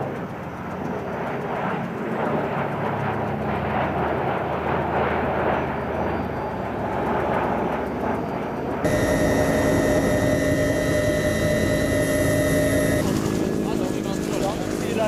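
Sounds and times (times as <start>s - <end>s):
turboprop plane droning overhead: 0.0s - 15.0s.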